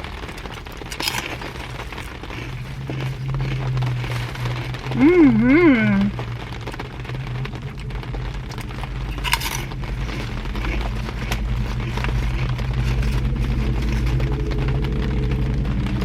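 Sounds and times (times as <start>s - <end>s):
crunching and chewing pork rinds: 0.0s - 5.4s, 6.0s - 16.0s
low hum from car: 0.0s - 16.0s
rain on car: 0.0s - 16.0s.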